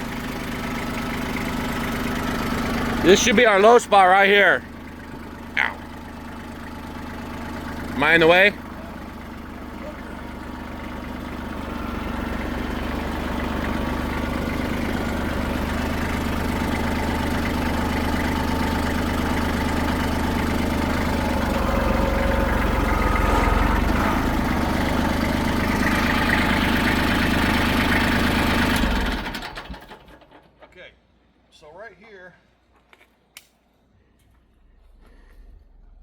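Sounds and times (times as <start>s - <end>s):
engine running at low speed: 0.0s - 30.5s, 34.0s - 36.0s.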